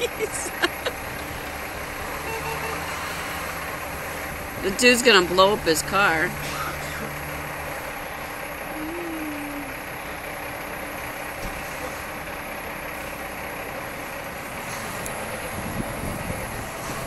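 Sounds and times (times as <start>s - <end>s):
distant truck and car engines running: 0.0s - 17.0s.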